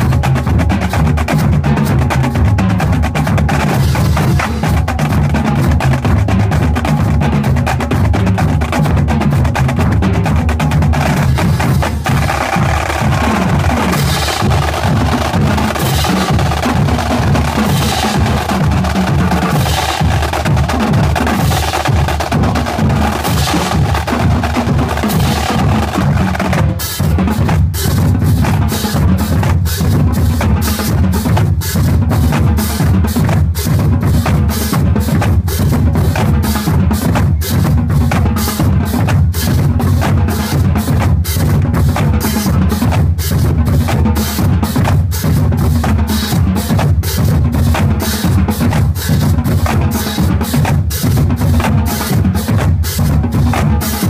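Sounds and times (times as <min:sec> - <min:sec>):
bass drums: 0:00.0 - 0:54.0
snare drums: 0:00.0 - 0:54.0.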